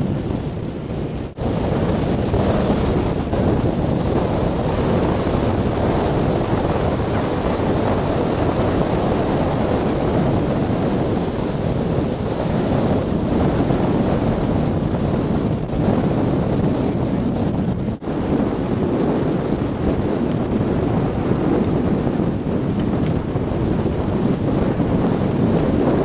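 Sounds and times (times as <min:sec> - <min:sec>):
wind buffeting microphone: 0:00.0 - 0:26.0
choppy waves rushing: 0:01.3 - 0:26.0.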